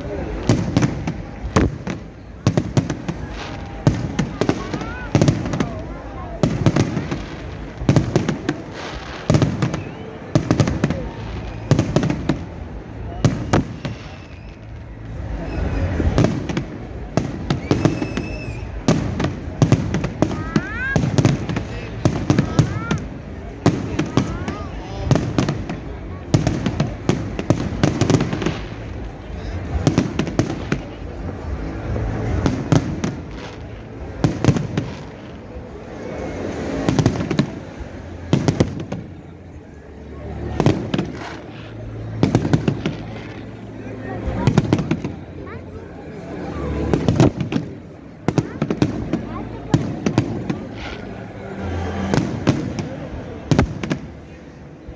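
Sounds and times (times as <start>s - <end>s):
background noise: 0.0s - 54.9s
fireworks crackling and banging: 0.0s - 54.9s.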